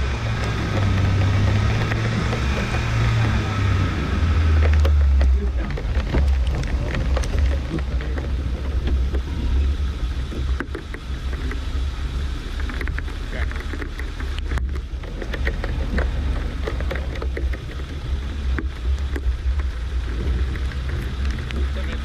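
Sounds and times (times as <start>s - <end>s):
car engine rumbling: 0.0s - 22.0s
knocks and rattles: 0.0s - 22.0s.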